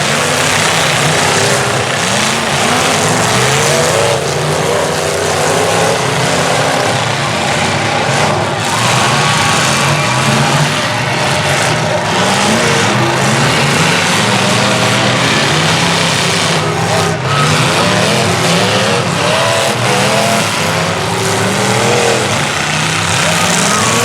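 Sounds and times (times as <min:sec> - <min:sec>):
truck engines revving: 0:00.0 - 0:24.0.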